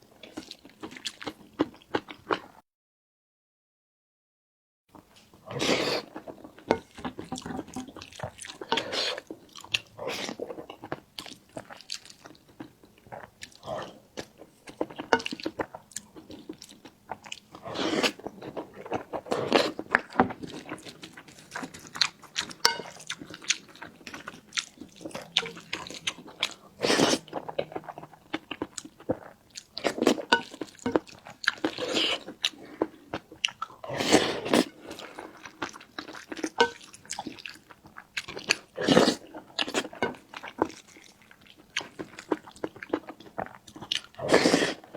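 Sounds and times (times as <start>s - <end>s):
person chewing: 0.2s - 2.5s, 5.5s - 44.9s.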